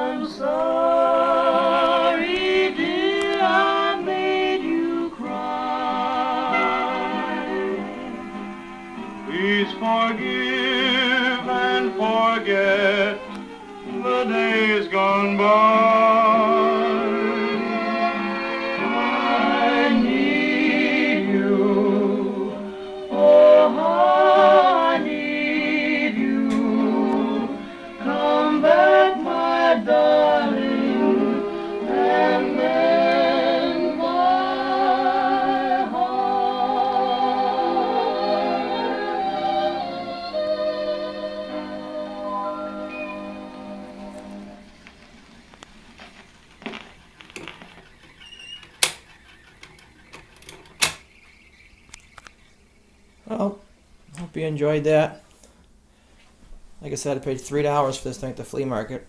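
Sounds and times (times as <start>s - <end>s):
old record singer with vibrato: 0.0s - 51.0s.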